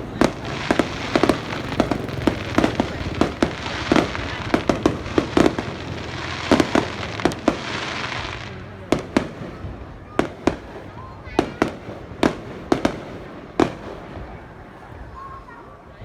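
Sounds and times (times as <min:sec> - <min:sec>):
firework shells bursting: 0:00.0 - 0:14.2
firework crackling: 0:00.0 - 0:16.0.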